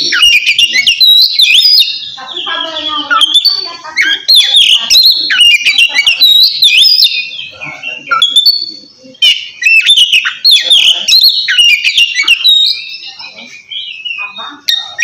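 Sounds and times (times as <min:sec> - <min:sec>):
bird singing whistled notes: 0:00.0 - 0:15.0.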